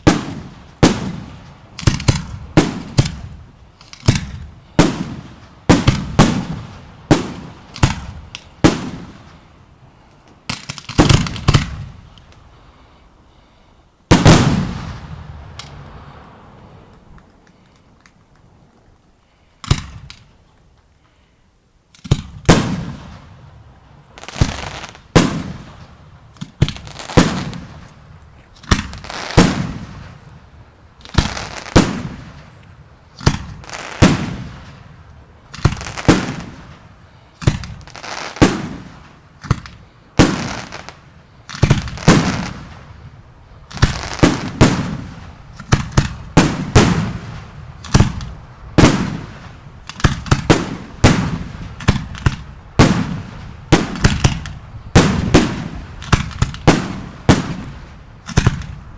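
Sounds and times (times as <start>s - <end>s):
fireworks bursting with echo: 0.0s - 12.6s, 14.1s - 17.7s, 19.6s - 20.4s, 22.0s - 58.9s.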